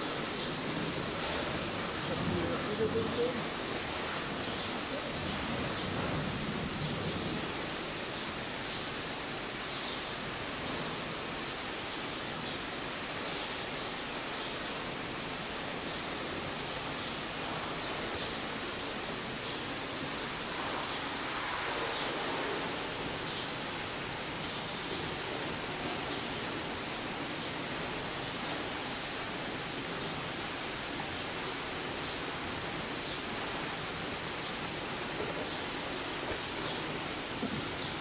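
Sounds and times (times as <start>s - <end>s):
steady background hiss: 0.0s - 38.0s.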